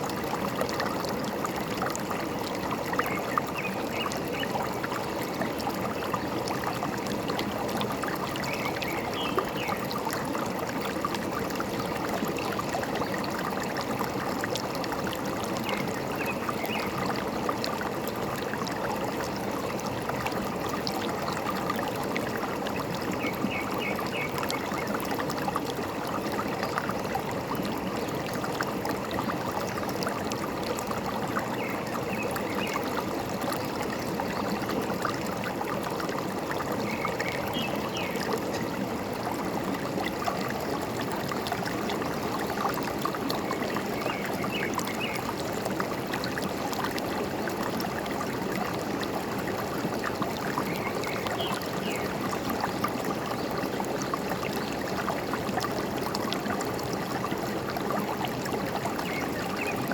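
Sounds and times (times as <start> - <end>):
stream gurgling over rocks: 0.0 - 59.9.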